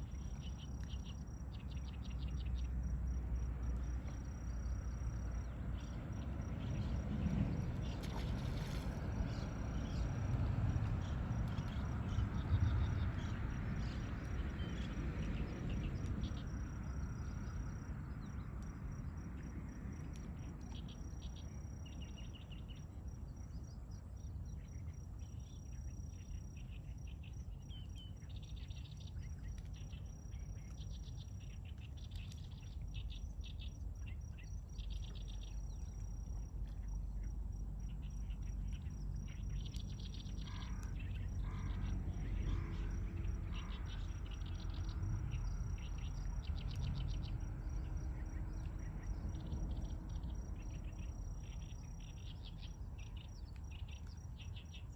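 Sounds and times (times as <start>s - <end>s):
small birds chirping: 0.0s - 2.8s, 10.9s - 54.9s.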